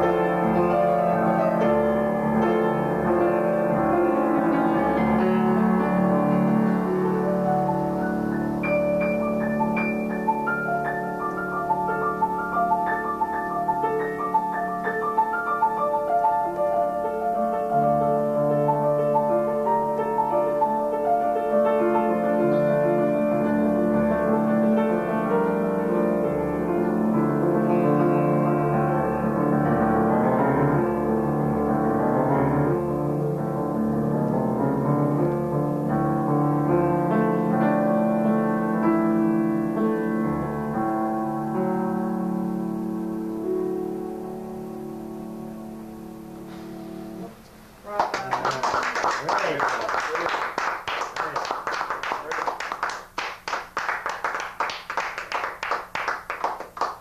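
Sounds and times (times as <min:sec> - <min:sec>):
solo grand piano: 0:00.0 - 0:57.0.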